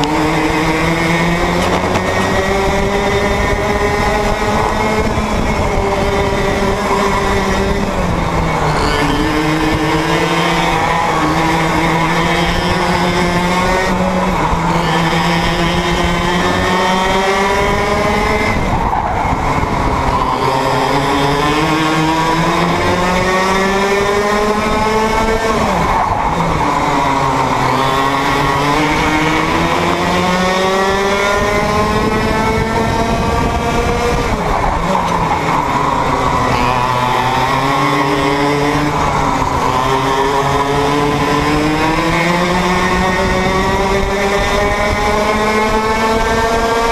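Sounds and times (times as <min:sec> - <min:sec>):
kart engine revving: 0:00.0 - 0:46.9.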